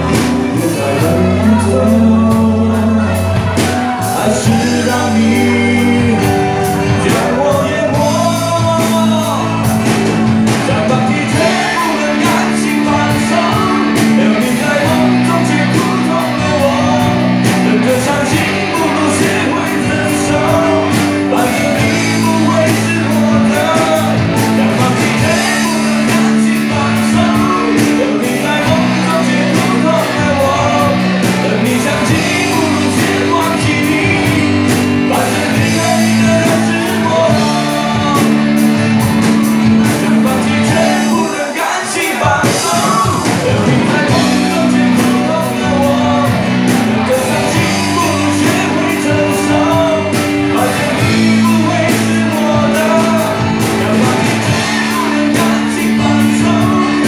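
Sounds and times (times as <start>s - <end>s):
bass notes: 0.0s - 57.0s
drum beat: 0.0s - 57.0s
person singing: 0.0s - 57.0s.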